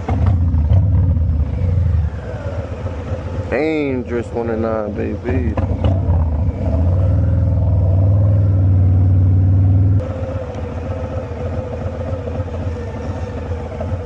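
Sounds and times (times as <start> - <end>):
motorcycle engine under throttle: 0.0 - 4.0, 5.2 - 14.0.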